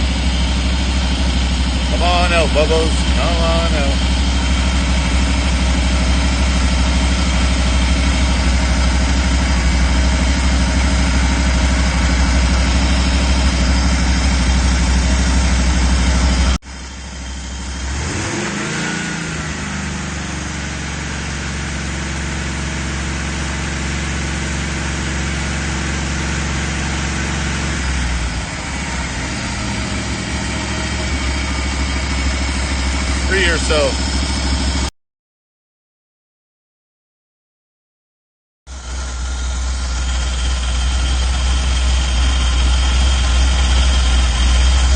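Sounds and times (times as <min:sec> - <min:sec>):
van engine idling: 0:00.0 - 0:34.9, 0:38.7 - 0:44.9.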